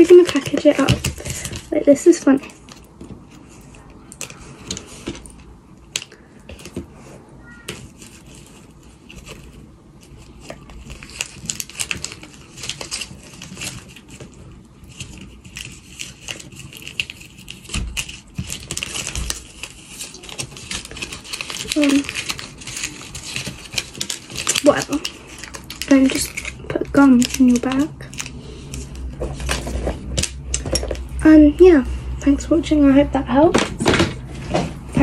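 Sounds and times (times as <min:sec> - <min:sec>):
wrapper crinkling and rustling: 0:00.0 - 0:31.8.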